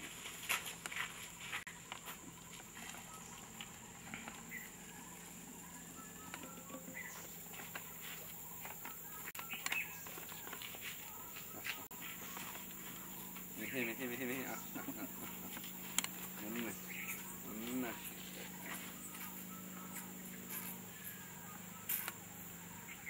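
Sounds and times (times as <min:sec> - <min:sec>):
high-pitched hum: 0:00.0 - 0:23.0.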